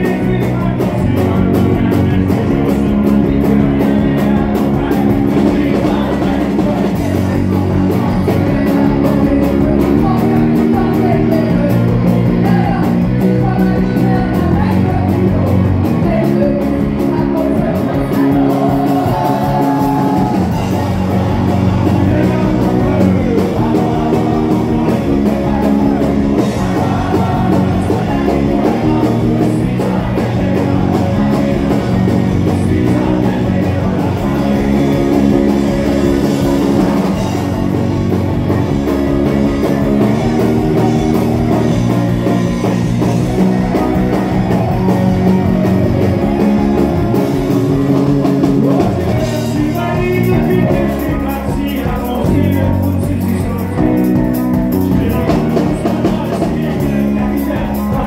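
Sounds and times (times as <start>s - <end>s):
drums: 0.0s - 58.0s
guitar: 0.0s - 58.0s
man singing: 0.0s - 58.0s.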